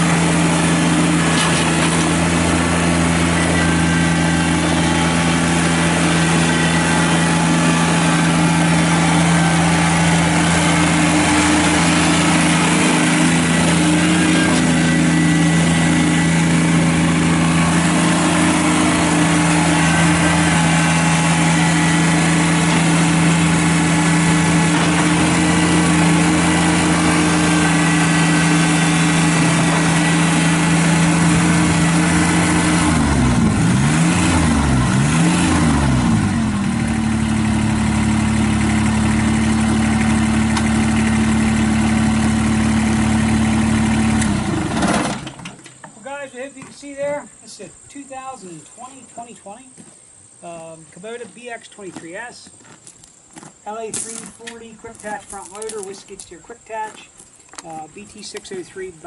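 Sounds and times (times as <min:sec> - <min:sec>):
tractor diesel engine running: 0:00.0 - 0:47.4.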